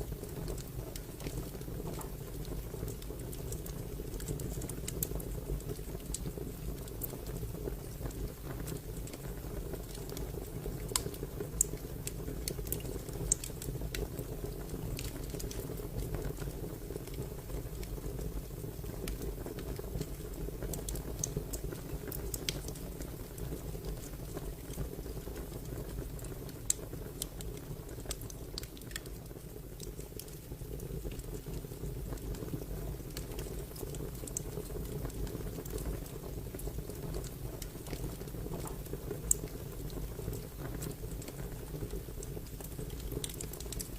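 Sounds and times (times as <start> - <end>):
fire crackling and popping: 0.0 - 43.9
low fire rumble: 0.0 - 43.9.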